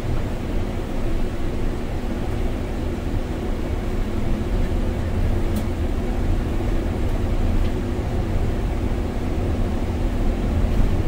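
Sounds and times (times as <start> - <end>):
bus engine and tyres rumbling: 0.0 - 11.0.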